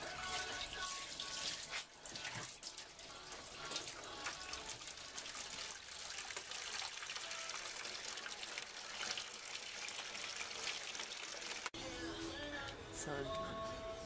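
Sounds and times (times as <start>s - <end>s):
water trickling: 0.0s - 11.8s.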